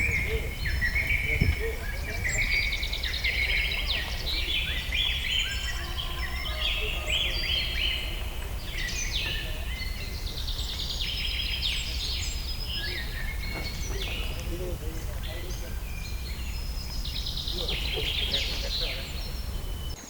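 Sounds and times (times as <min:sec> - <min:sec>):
small birds chirping and singing: 0:00.0 - 0:20.0
steady low rumble: 0:00.0 - 0:20.0.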